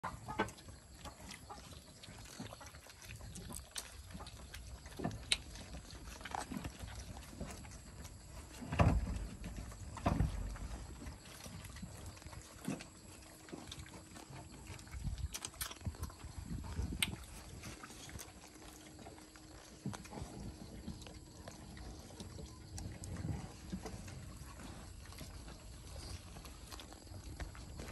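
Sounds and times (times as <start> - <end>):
puppies lapping and smacking: 0.0 - 27.9.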